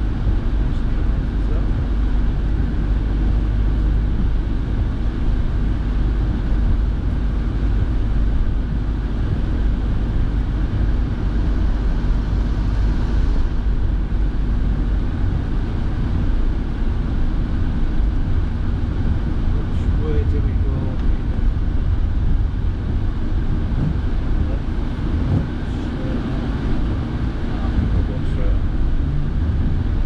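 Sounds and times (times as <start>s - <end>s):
engine and tyre rumble on wet road: 0.0s - 30.0s
heater fan blowing: 0.0s - 30.0s.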